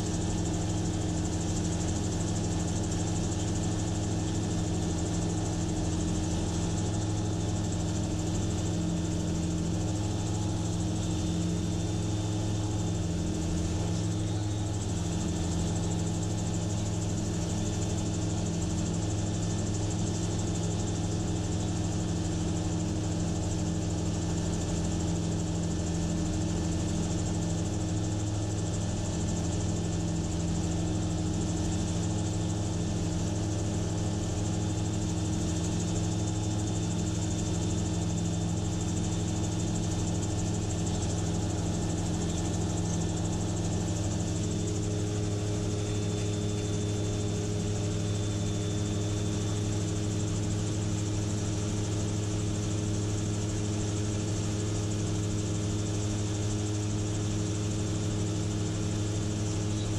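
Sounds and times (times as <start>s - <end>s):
gyrocopter engine and propeller: 0.0s - 59.9s.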